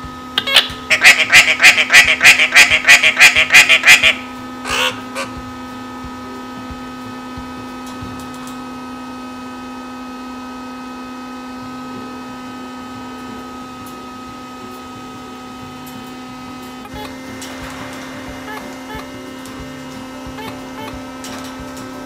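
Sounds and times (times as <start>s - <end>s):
steady hum of held pitches: 0.0s - 22.0s.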